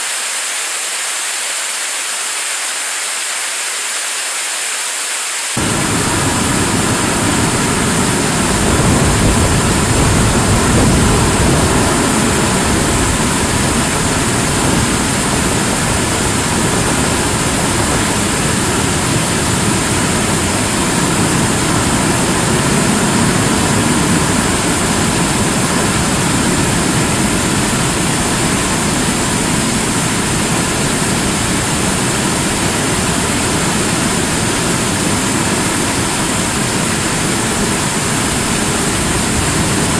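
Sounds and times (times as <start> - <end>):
distant rocket engine rumble: 5.6 - 39.9.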